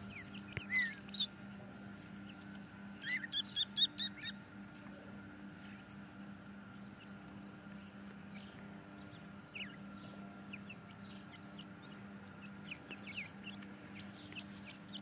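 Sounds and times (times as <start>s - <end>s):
chicks peeping: 0.0s - 15.0s
faint steady hum: 0.0s - 15.0s.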